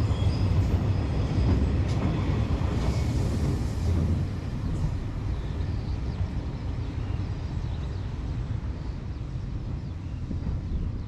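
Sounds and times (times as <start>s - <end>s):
freight train wagons rumbling: 0.0s - 11.0s.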